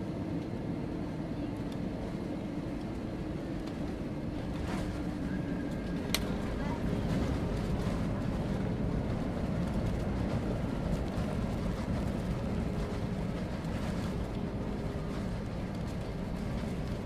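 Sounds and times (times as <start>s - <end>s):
airplane engine rumble: 0.0s - 17.0s.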